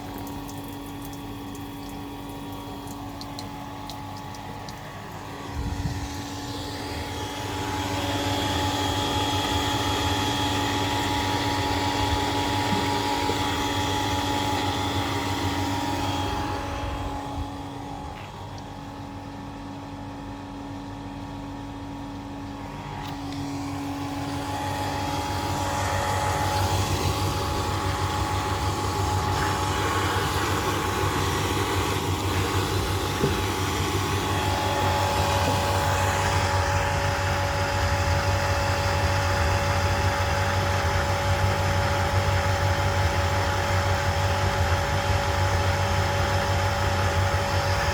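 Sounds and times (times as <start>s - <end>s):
pump mechanical hum and whine: 0.0s - 47.9s.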